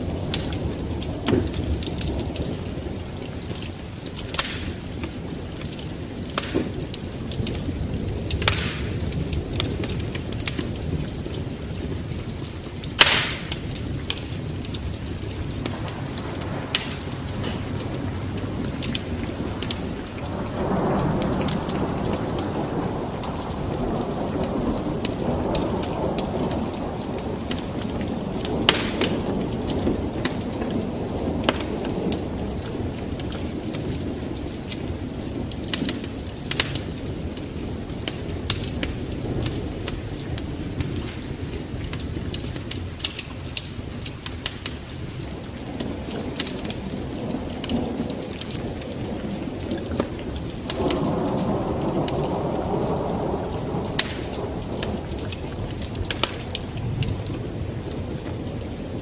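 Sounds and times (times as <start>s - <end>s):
low rush of flames: 0.0s - 59.0s
wood fire crackling and popping: 0.0s - 59.0s.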